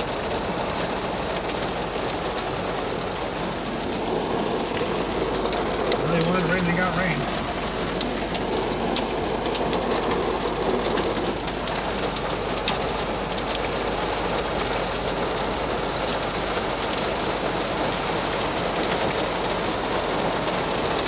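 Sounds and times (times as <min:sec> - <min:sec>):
heavy rain on vehicle roof: 0:00.0 - 0:21.0.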